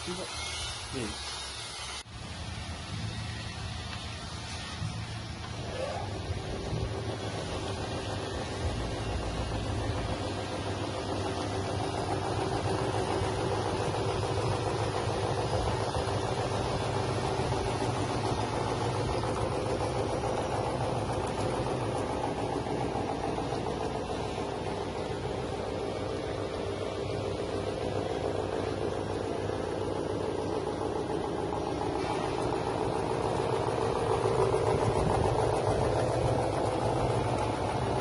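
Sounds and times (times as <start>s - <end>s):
plucking machine motor humming: 2.2s - 38.0s.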